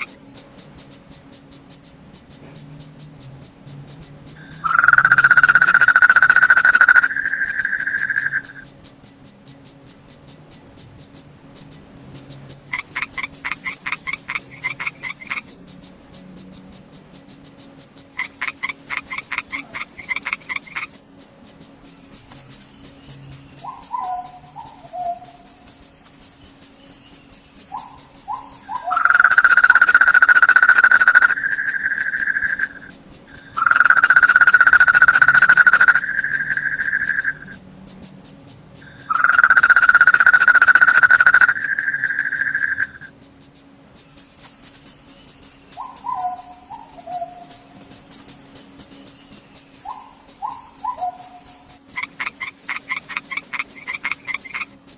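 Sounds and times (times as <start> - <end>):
crickets chirping: 0.0 - 54.9
low continuous insect trill: 0.0 - 54.9
low fast pulsed insect calls: 0.0 - 54.9.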